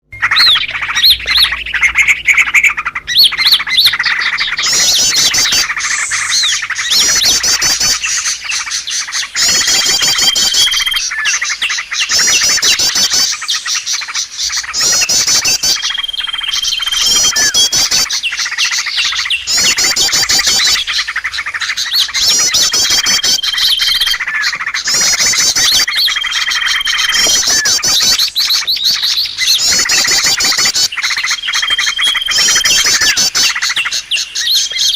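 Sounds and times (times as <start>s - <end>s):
recorded songbirds chirping: 0.0s - 34.9s.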